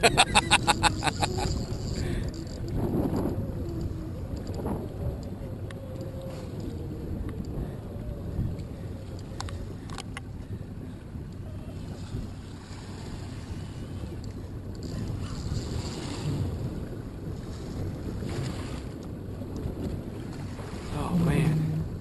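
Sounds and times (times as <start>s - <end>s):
waves lapping against a boat: 0.0s - 22.0s
wind rumbling on microphone: 0.0s - 22.0s.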